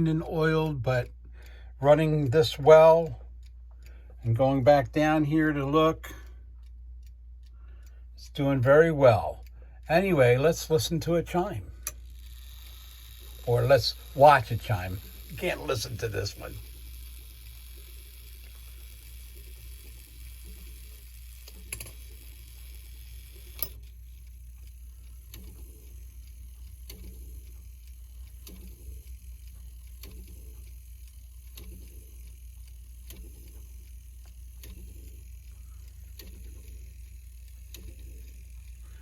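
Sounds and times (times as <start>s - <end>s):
clock mechanism clicks: 0.0s - 39.0s
steady low hum: 0.0s - 39.0s.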